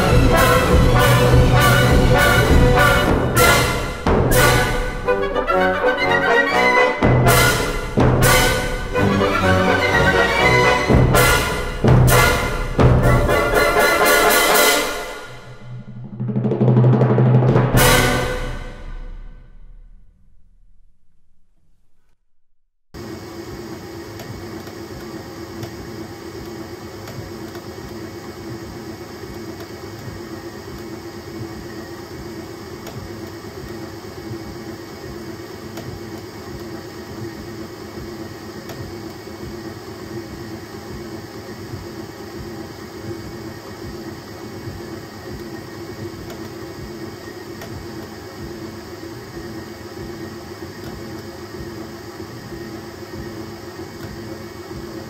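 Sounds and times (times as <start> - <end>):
printer fans and motors whirring: 0.0 - 15.7, 23.0 - 55.0.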